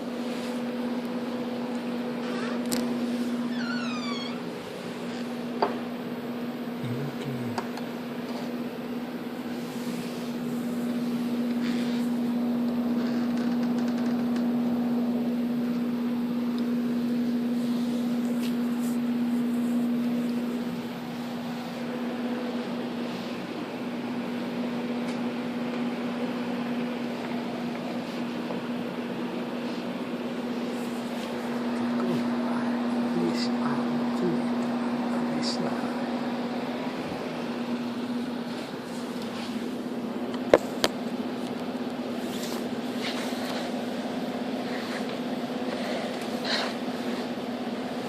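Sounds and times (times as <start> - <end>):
electrical hum: 0.0 - 48.0.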